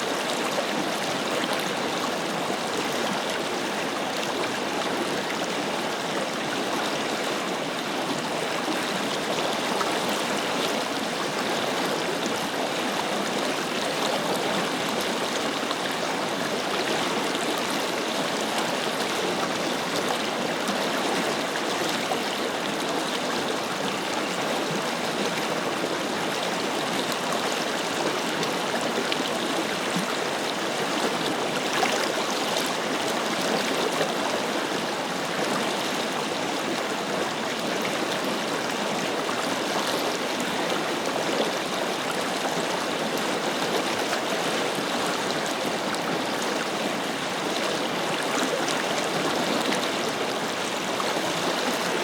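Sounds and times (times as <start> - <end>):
river flowing over its bed: 0.0 - 52.0.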